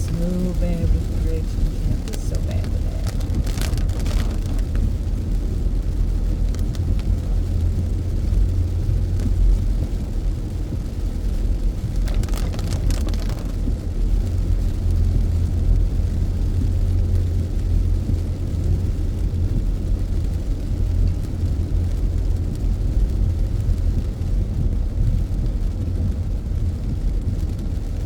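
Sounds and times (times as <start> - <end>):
car tyres and engine rumble: 0.0 - 28.0.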